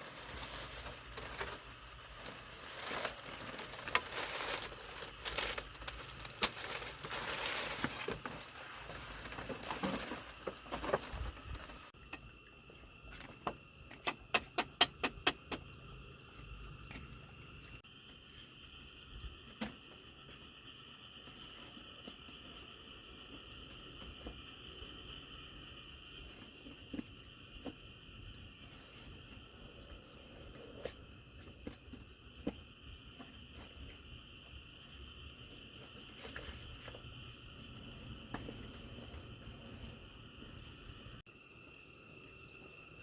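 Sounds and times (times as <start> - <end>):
insect chorus: 0.0 - 43.0.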